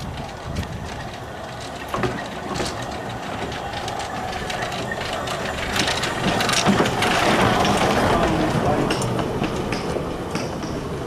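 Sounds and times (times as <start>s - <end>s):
steam locomotive wheels clanking: 0.0s - 11.0s.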